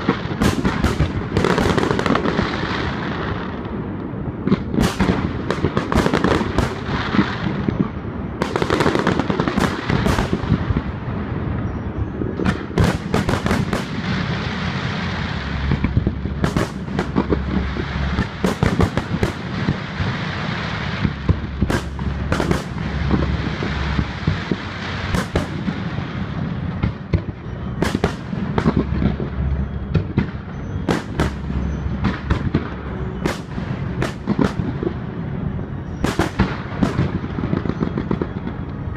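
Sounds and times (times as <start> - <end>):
crackling hiss: 0.0 - 38.9
fireworks bangs and cracks: 0.0 - 38.9.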